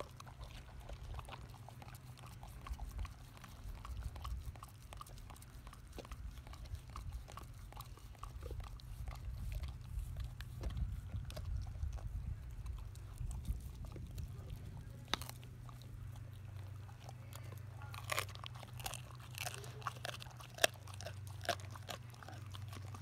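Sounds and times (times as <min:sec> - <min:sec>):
dogs chewing and crunching bone: 0:00.0 - 0:23.0
low steady rumble: 0:00.0 - 0:23.0.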